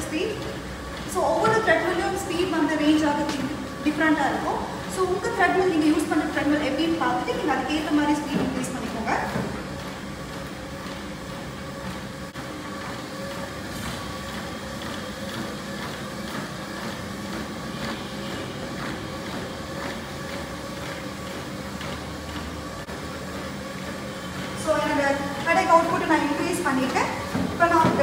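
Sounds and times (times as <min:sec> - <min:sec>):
soft footfalls on treadmill: 0:00.0 - 0:28.0
treadmill motor hum and whine: 0:00.0 - 0:28.0.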